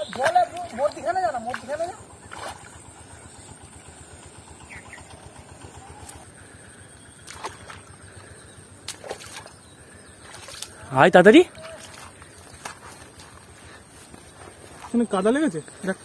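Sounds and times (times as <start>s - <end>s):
feet splashing in muddy water: 0.0s - 3.6s, 5.7s - 16.0s.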